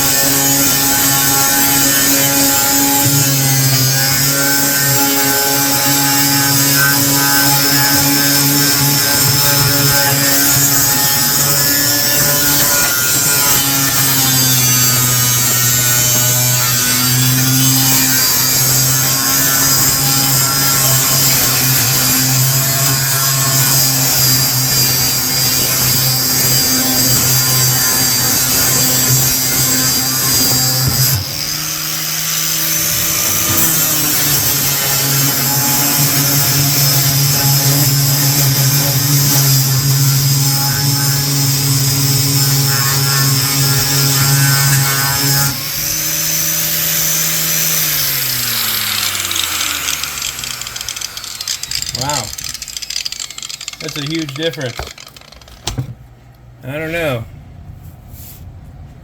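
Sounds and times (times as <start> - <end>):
grinder winding down: 0.0 - 55.8
angle grinder grinding metal: 0.0 - 55.9.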